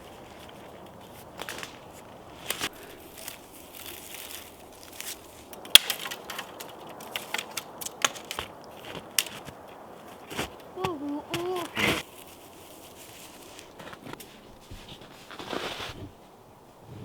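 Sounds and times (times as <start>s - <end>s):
irregular crunching: 0.0s - 16.2s.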